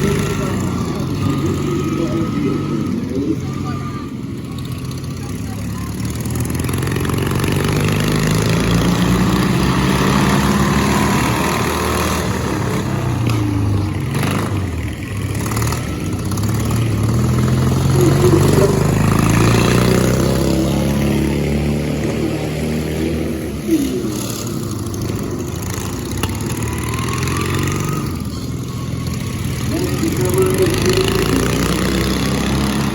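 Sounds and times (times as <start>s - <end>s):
lawn mower engines revving: 0.0s - 32.9s.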